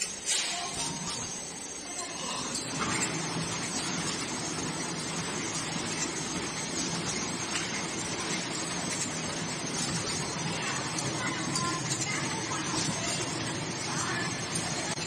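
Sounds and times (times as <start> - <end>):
packing machine whirring and rattling: 0.0 - 15.0.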